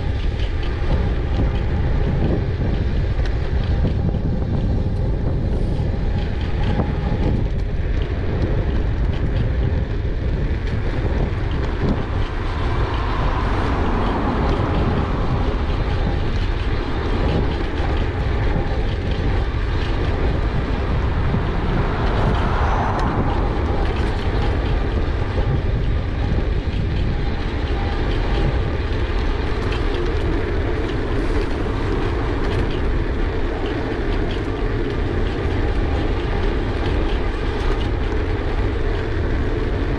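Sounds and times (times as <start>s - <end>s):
bike rattling and clicking: 0.0s - 39.9s
wind rumble on microphone: 0.0s - 39.9s.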